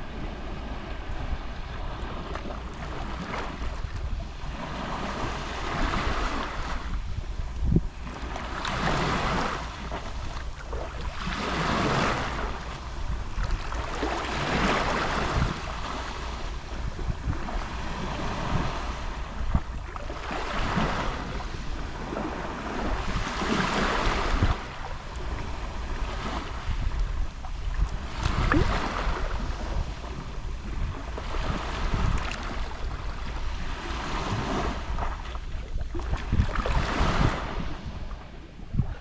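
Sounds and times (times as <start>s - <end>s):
waves lapping on shore: 0.0s - 39.0s.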